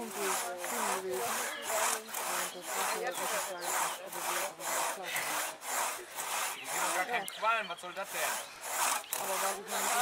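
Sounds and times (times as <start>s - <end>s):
hand saw cutting wood: 0.0s - 10.0s.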